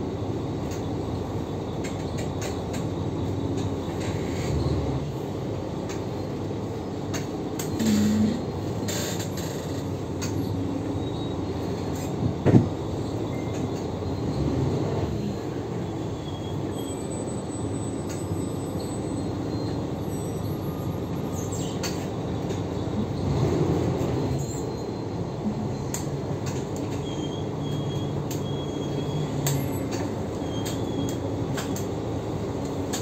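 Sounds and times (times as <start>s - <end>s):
bus drivetrain running: 0.0s - 33.0s
road rumble: 0.0s - 33.0s.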